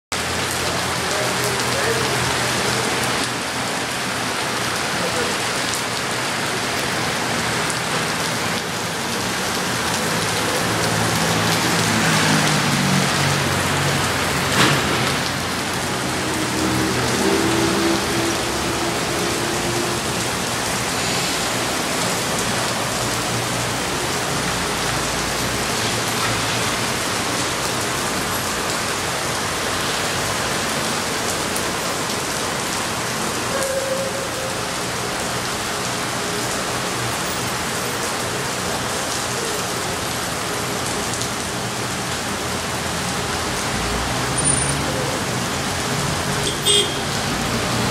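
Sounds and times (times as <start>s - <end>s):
rain pattering: 0.1s - 47.9s.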